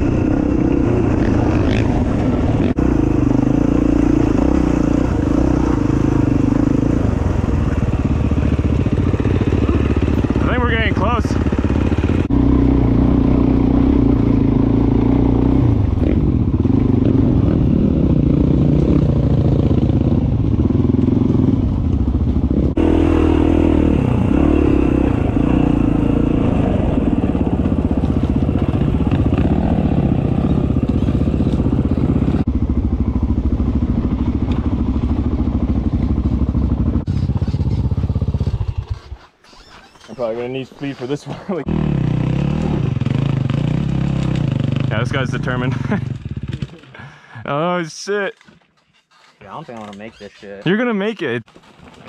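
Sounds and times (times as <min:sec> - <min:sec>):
dirt bike engine revving: 0:00.0 - 0:47.1.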